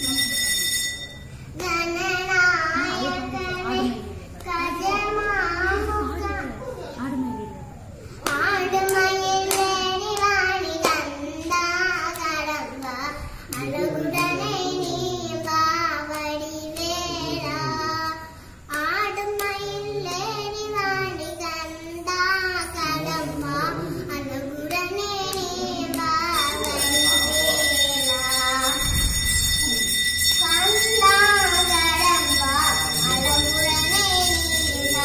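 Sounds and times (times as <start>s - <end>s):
girl singing: 1.5s - 6.6s, 8.2s - 29.1s, 30.4s - 35.0s.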